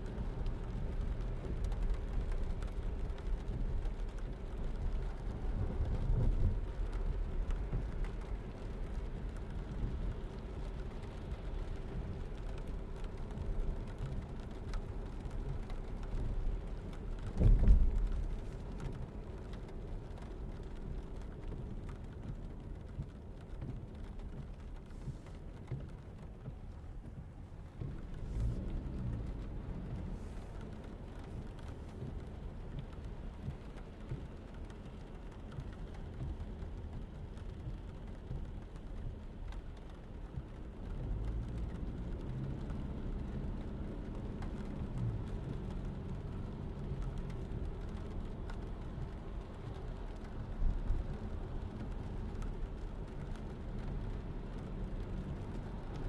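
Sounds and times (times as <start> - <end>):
tyres on wet road: 0.0 - 56.0.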